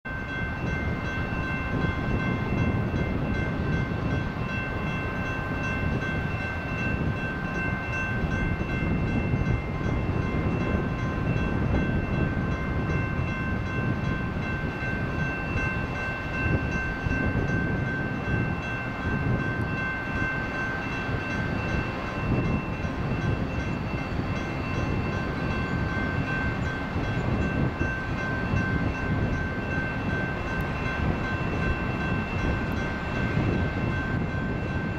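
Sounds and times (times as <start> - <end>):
crossing bell ringing: 0.1 - 34.9
freight train rumbling past: 0.1 - 34.9.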